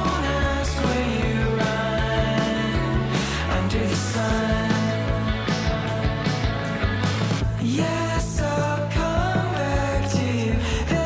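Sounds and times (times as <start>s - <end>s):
rock song with vocals: 0.0s - 11.0s.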